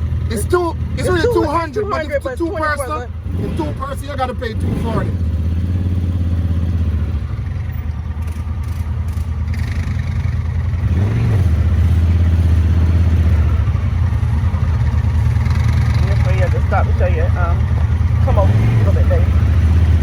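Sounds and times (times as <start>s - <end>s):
atv engine droning: 0.0s - 20.0s.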